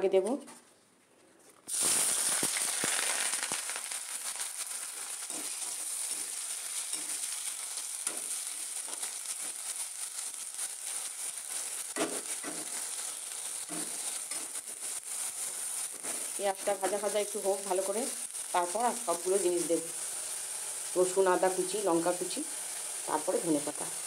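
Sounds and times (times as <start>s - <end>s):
onions sizzling in hot oil: 1.7s - 24.0s.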